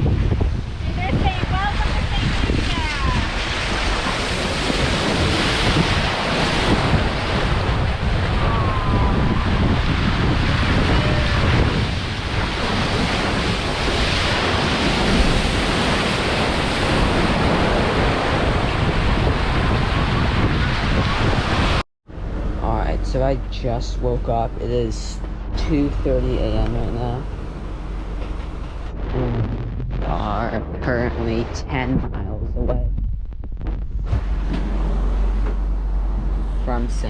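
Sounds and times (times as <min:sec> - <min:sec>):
ocean waves rushing: 0:00.0 - 0:33.0
wind buffeting microphone: 0:00.0 - 0:37.0.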